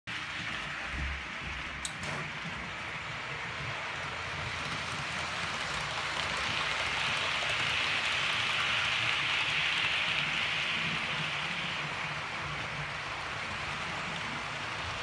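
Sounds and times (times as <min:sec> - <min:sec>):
model train whirring rattle: 0:00.1 - 0:15.0.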